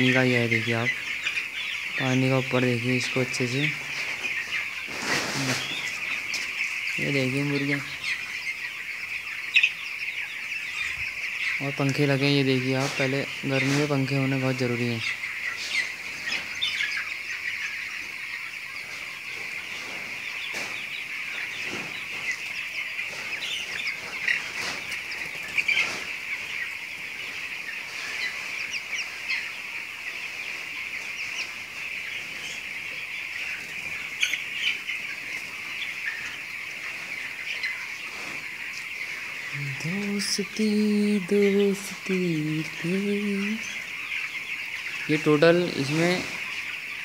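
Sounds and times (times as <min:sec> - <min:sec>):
chicks peeping: 0:00.0 - 0:47.0.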